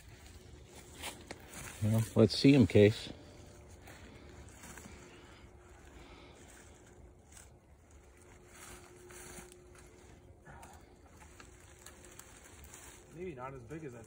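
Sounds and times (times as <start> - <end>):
dry leaves rustling: 0.0 - 14.0
soft handling noises: 0.0 - 14.0.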